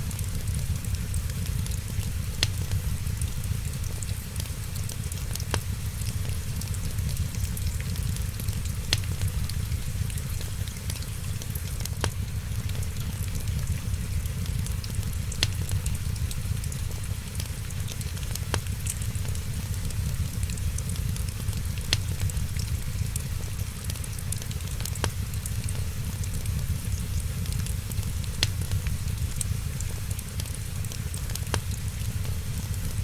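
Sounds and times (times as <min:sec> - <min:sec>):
fireplace fire crackling: 0:00.0 - 0:33.0
rain hissing: 0:00.0 - 0:33.0.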